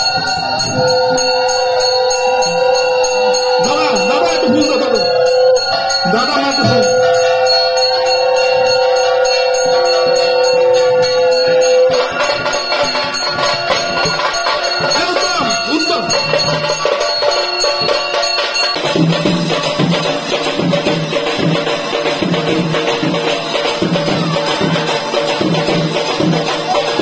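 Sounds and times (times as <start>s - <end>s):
bells ringing: 0.0s - 27.0s
drum beating steady rhythm: 0.0s - 27.0s
jingling percussion: 0.0s - 27.0s.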